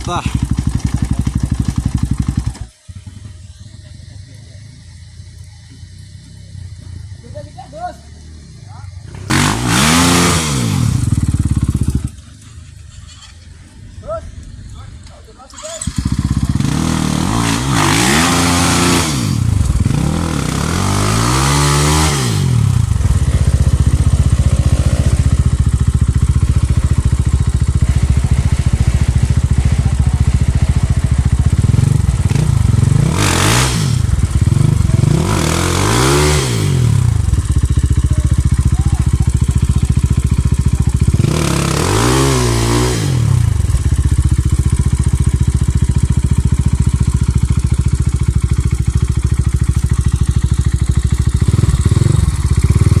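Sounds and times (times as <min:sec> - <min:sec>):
motorcycle engines revving: 0:00.0 - 0:53.0.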